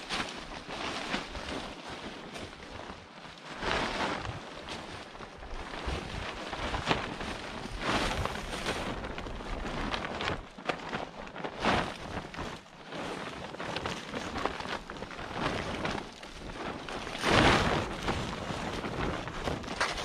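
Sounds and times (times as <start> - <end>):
plastic tarp crinkling: 0.0 - 20.0
tarp snapping: 0.0 - 20.0.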